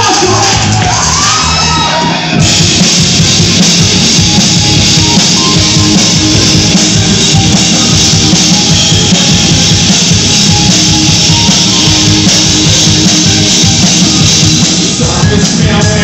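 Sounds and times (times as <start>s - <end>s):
drum kit: 0.0s - 16.0s
electric guitars: 0.0s - 16.0s.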